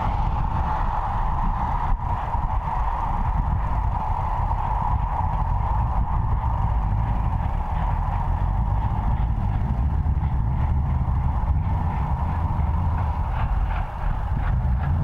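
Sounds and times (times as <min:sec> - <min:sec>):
high steady whine: 0:00.0 - 0:15.0
locomotive diesel engine rumble: 0:00.0 - 0:15.0.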